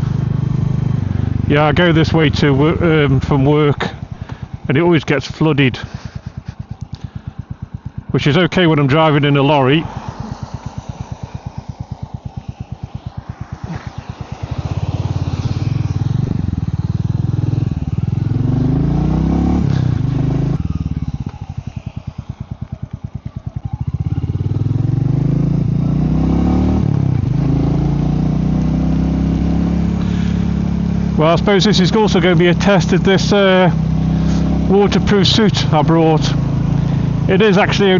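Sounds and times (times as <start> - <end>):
single-cylinder motorcycle engine: 0.0 - 9.1, 9.8 - 37.9.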